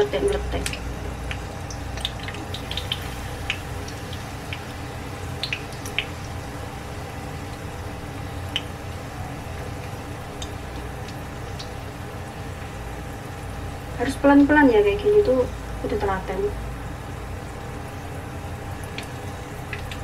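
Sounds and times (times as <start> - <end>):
batter frying in oil: 0.0 - 20.0
oil popping and crackling: 0.2 - 14.6, 17.7 - 20.0.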